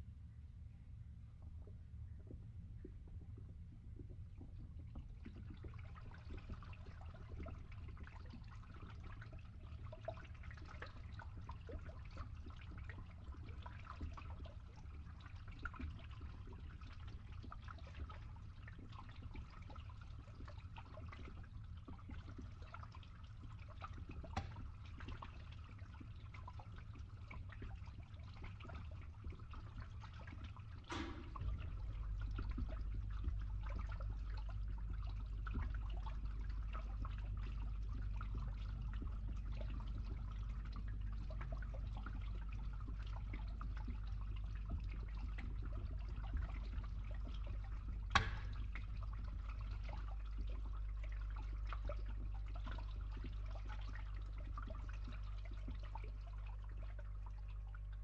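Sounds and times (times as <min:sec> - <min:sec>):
low pump hum: 0:00.0 - 0:58.0
water trickling through a pipe: 0:01.1 - 0:58.0.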